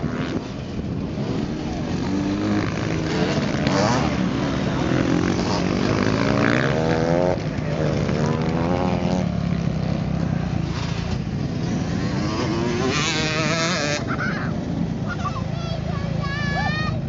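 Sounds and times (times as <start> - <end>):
dirt bike engines revving: 0.0 - 17.0
drone of other bikes: 0.0 - 17.0.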